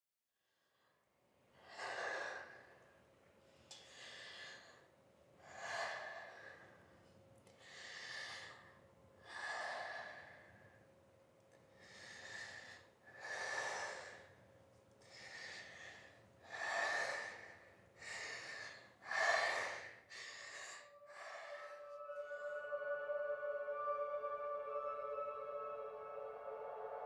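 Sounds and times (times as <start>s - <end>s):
slow breathing: 0.4s - 11.0s, 11.6s - 27.0s.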